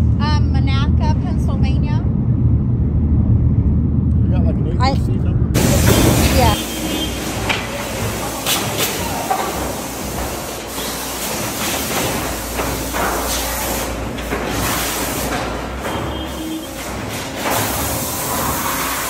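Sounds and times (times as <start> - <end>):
low machine hum: 0.0 - 19.0
noisy wash: 0.0 - 19.0.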